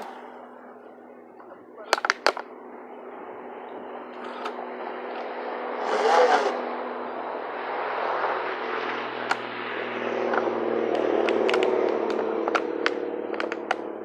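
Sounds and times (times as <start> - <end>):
bicycle buzzing drone: 0.0 - 14.0.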